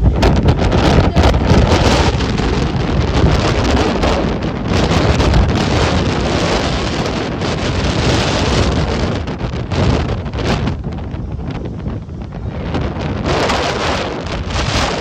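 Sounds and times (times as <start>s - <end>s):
rough sea surf: 0.0s - 15.0s
wind buffeting microphone: 0.0s - 15.0s.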